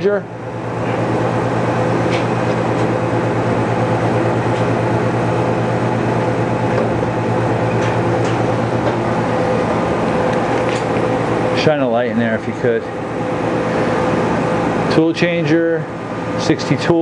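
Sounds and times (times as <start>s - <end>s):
machine pumps and motors humming: 0.0s - 17.0s.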